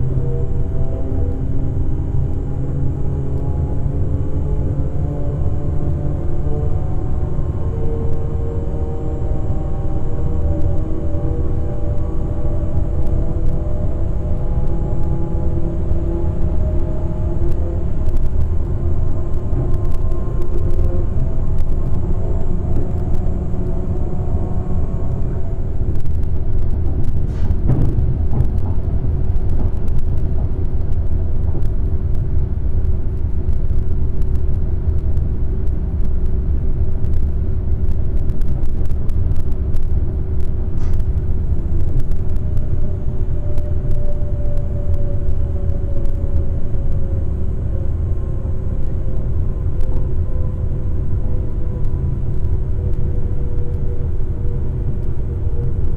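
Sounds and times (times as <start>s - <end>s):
train low rumble: 0.0s - 55.9s.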